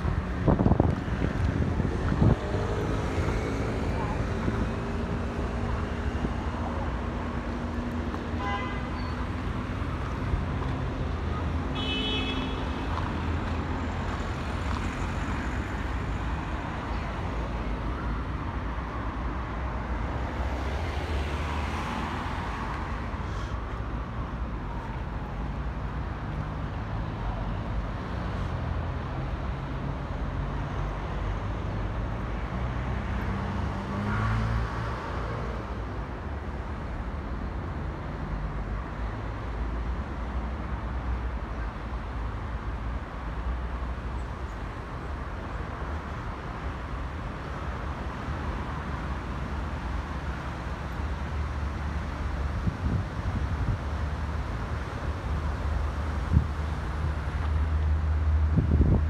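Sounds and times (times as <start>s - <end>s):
road traffic rumble: 0.0s - 59.0s
vehicles passing: 0.0s - 59.0s.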